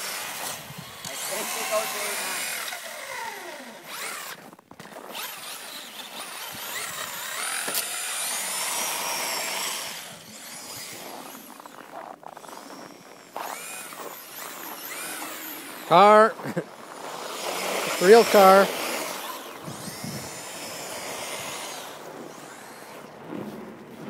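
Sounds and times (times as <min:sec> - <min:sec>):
toy truck electric motor whining: 0:00.0 - 0:23.2
wheels spinning on snow: 0:00.0 - 0:24.0.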